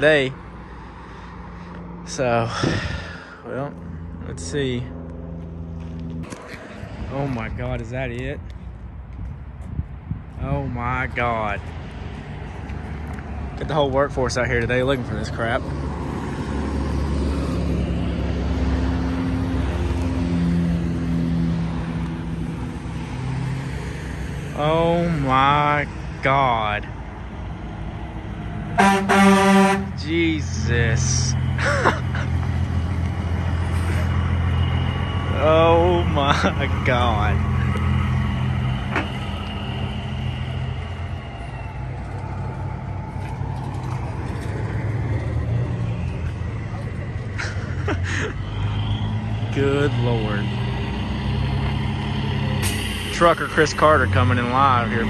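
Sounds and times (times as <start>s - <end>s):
large vehicle engine rumbling: 0.0s - 55.0s.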